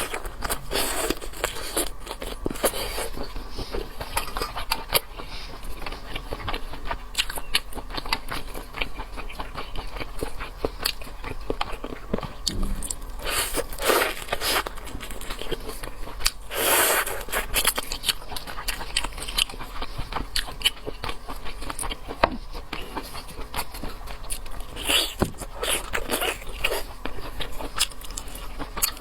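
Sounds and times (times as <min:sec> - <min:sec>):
chewing: 0:00.0 - 0:29.0.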